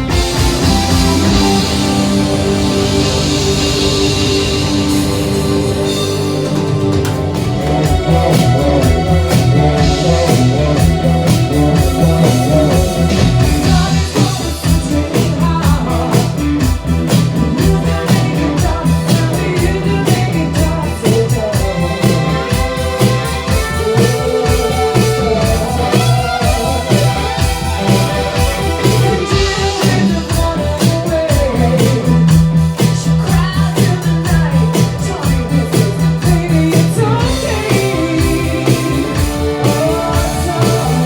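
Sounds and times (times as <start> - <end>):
drum kit beat: 0.0 - 41.0
electric guitar: 0.0 - 41.0.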